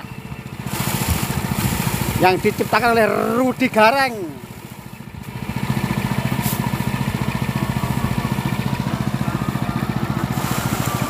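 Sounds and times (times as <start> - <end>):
small petrol engine pulsing: 0.0 - 11.0.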